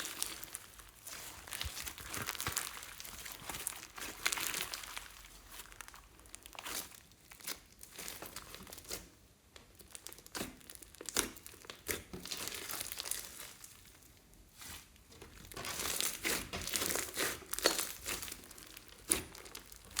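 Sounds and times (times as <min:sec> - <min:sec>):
slime kneaded by hand: 0:00.0 - 0:20.0.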